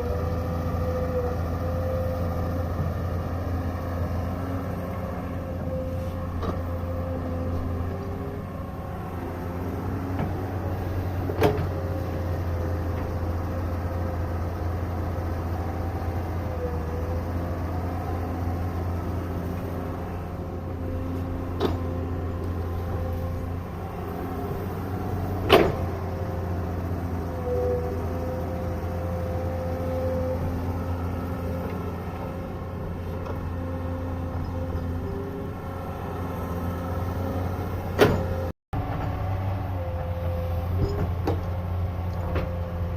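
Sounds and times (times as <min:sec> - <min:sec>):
excavator diesel engine droning: 0:00.0 - 0:42.9.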